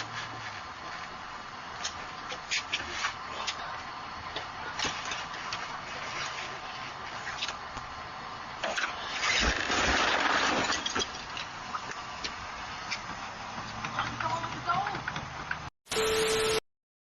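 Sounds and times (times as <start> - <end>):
vehicle road noise: 0.0 - 15.7.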